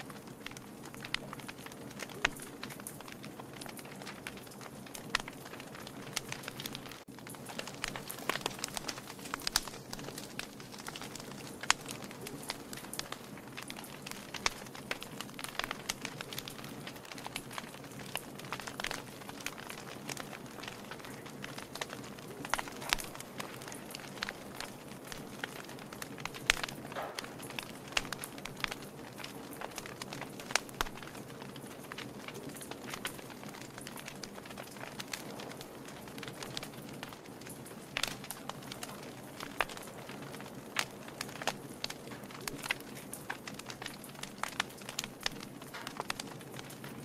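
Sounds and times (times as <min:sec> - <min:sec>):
low rustle of flame: 0:00.0 - 0:47.0
sharp pops and snaps: 0:00.0 - 0:47.0
wood fire crackling: 0:00.0 - 0:47.0.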